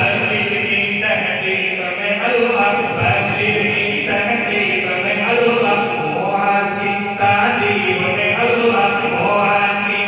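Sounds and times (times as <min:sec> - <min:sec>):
man chanting into a microphone: 0:00.0 - 0:10.0.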